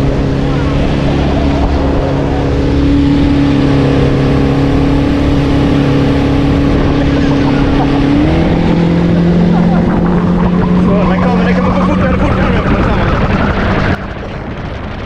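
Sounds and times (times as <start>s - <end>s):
outboard motor running: 0.0s - 15.0s
rush of water: 0.0s - 15.0s.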